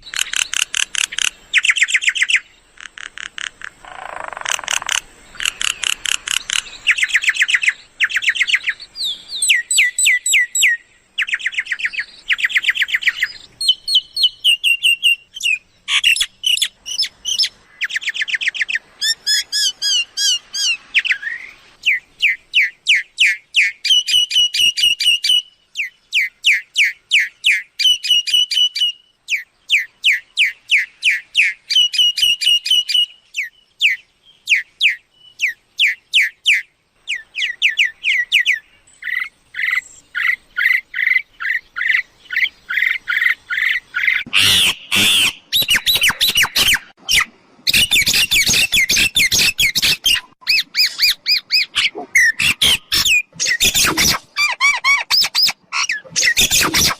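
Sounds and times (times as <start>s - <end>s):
myna birds chirping and squawking: 0.0s - 56.9s.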